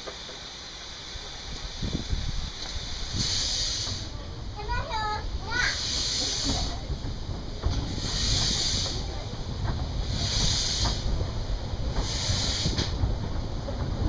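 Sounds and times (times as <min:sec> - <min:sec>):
low rumble of moving train: 0:00.0 - 0:14.0
steam puffs hissing: 0:00.0 - 0:14.0.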